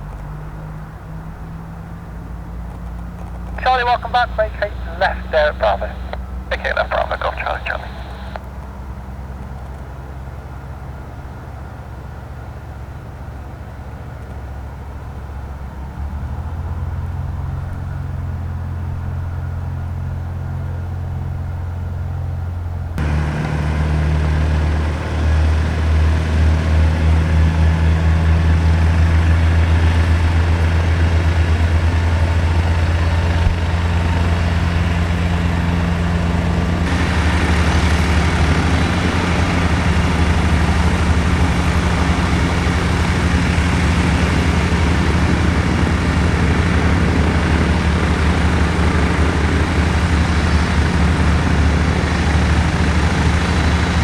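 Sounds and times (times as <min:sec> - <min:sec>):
aircraft engine humming: 0:00.0 - 0:08.4, 0:09.6 - 0:54.0.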